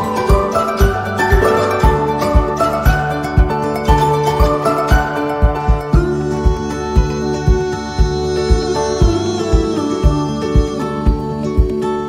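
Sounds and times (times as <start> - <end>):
music with low beat: 0.0 - 12.0.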